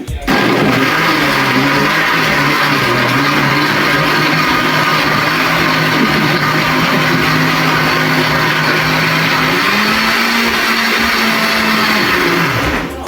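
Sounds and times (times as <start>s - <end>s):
electric blender running: 0.0s - 13.0s.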